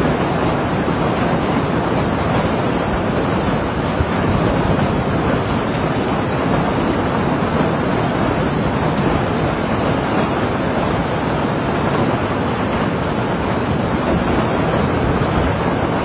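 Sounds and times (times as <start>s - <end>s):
hail and heavy rain: 0.0s - 16.0s.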